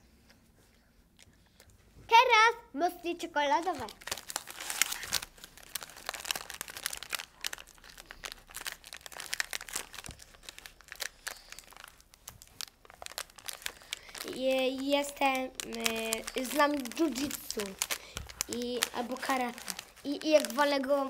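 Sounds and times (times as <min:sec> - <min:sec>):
plastic wrapper crinkling: 0:03.4 - 0:21.0.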